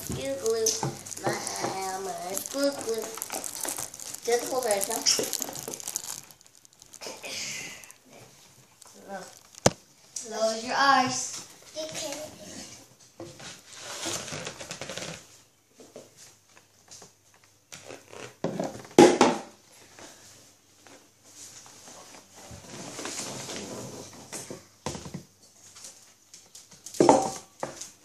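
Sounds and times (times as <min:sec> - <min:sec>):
rustling and handling noises: 0:00.0 - 0:18.4, 0:19.7 - 0:24.6.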